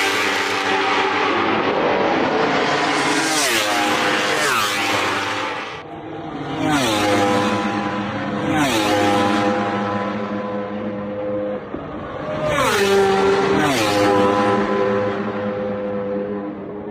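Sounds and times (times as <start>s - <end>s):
racing motorbikes passing at speed: 0.0s - 16.9s.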